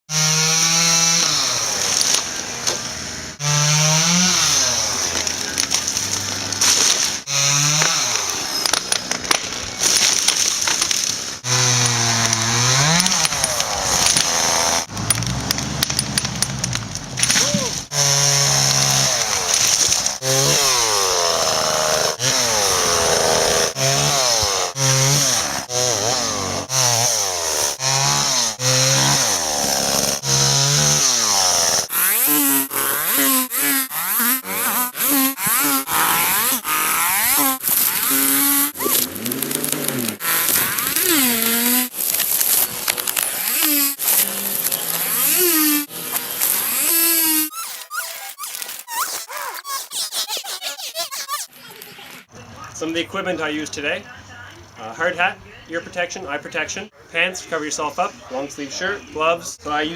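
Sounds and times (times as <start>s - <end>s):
chainsaw cutting wood: 0.1s - 51.7s.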